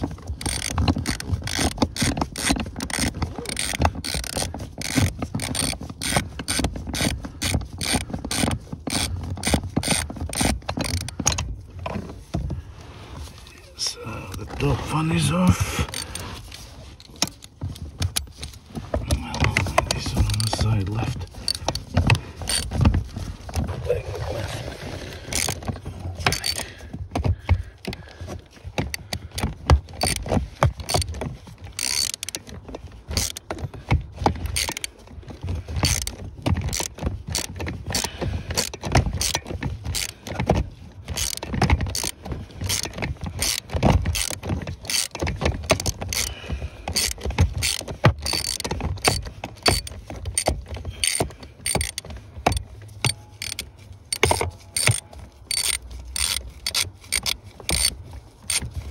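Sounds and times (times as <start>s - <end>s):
tools clicking and knocking: 0.0s - 12.6s, 15.3s - 16.2s, 17.0s - 23.7s, 25.2s - 58.9s.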